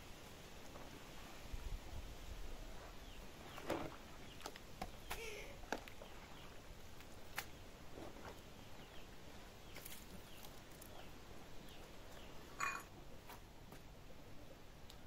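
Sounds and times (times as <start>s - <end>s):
faint birds chirping: 2.6s - 15.0s.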